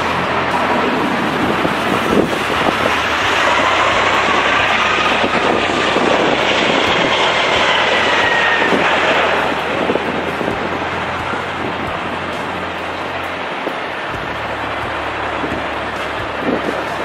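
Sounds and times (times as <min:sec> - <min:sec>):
jet engines rushing and whining: 0:00.0 - 0:17.0.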